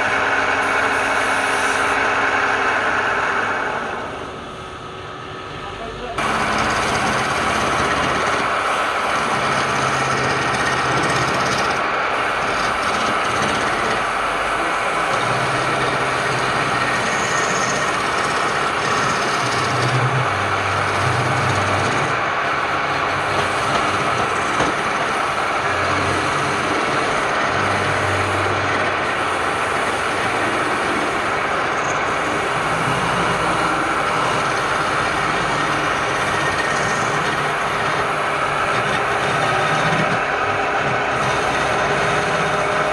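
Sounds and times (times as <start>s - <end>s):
wood lathe running: 0.0s - 4.5s, 6.1s - 42.9s.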